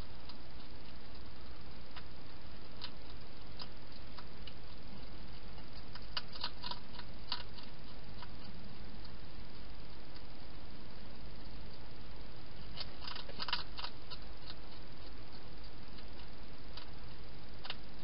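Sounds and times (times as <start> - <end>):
steady hiss: 0.0 - 18.0
hedgehog eating crunches: 0.1 - 10.3, 12.6 - 18.0.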